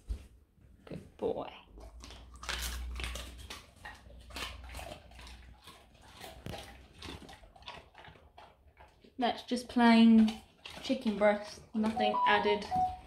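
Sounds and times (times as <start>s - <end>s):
dog chewing and crunching: 1.6s - 13.0s.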